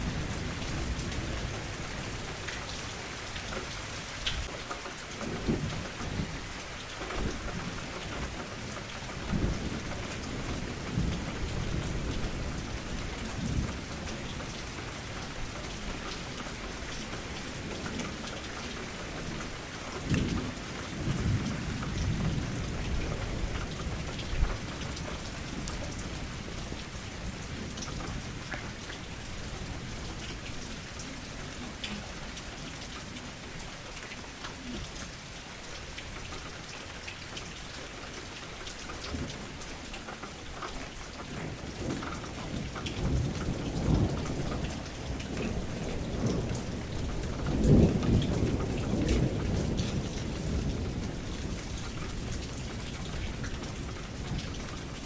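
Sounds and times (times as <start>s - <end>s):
low rolling thunder: 0.0s - 3.8s, 5.2s - 35.4s, 41.2s - 55.0s
heavy rain falling: 0.0s - 55.0s.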